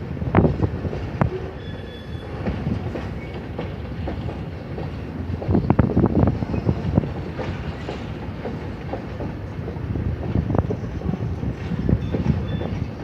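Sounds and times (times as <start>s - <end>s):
freight train wheels knocking: 0.0s - 13.0s.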